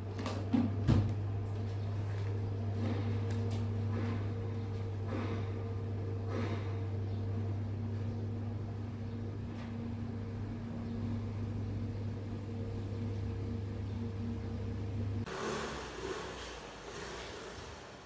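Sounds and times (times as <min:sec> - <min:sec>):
electric fans humming: 0:00.0 - 0:18.0.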